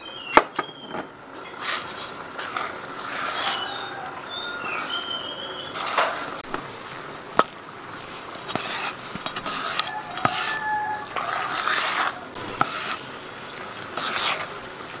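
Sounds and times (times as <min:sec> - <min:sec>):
dough stirred in steel bowl: 0:01.4 - 0:15.0.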